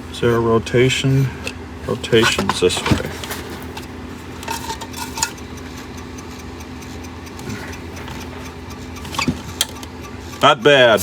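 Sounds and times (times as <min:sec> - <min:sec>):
steady low hum: 0:00.0 - 0:11.0
fan clinks and scrapes: 0:00.1 - 0:06.4, 0:07.4 - 0:11.0.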